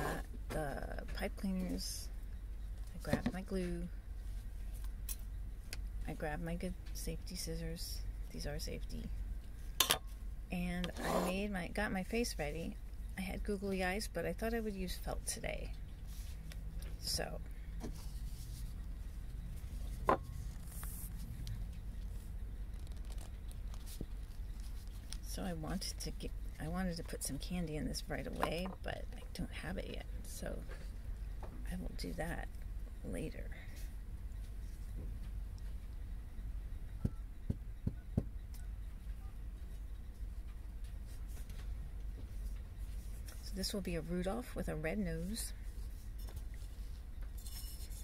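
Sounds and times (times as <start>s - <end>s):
low room hum: 0.0s - 48.0s.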